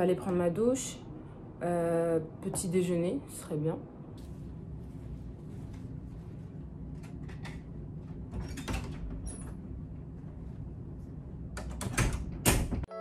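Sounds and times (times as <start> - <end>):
low room hum: 0.0 - 12.9.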